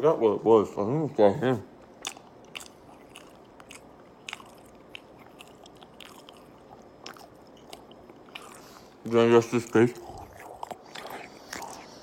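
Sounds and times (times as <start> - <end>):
person chewing soft food: 1.8 - 12.0.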